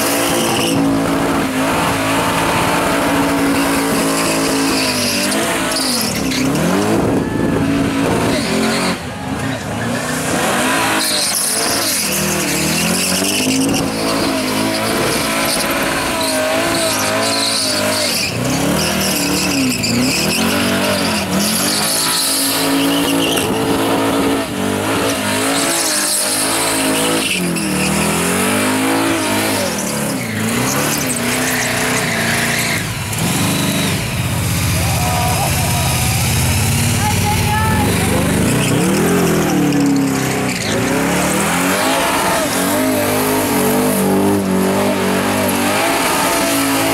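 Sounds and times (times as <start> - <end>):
car engine revving: 0.0 - 46.9
tyres screeching: 0.0 - 46.9.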